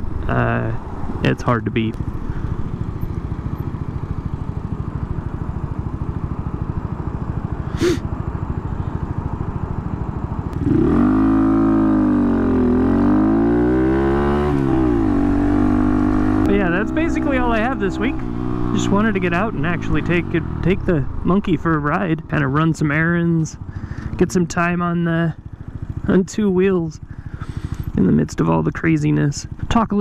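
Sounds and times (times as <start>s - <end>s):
motorbike engine: 0.0s - 29.7s.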